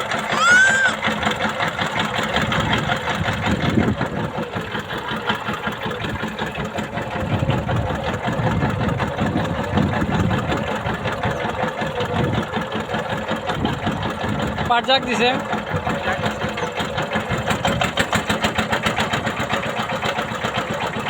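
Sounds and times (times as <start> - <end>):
boat engine chugging: 0.0 - 21.0.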